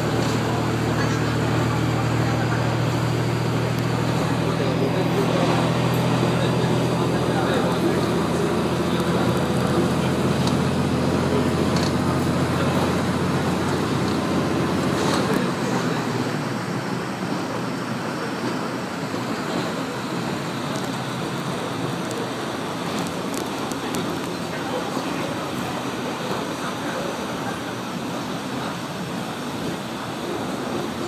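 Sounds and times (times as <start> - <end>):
diesel engine running: 0.0 - 31.0
train wheels on rails: 0.0 - 31.0.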